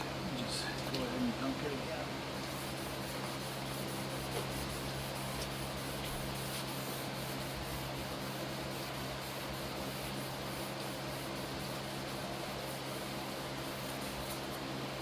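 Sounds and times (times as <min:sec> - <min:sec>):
steady low hum: 0:00.0 - 0:15.0
sandpaper rubbing on plastic: 0:02.4 - 0:14.7.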